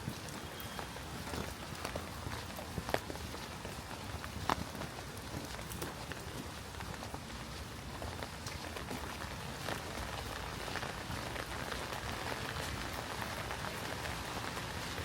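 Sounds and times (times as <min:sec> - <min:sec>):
raindrops ticking on surfaces: 0:00.0 - 0:15.0
steady rain hissing: 0:00.0 - 0:15.0.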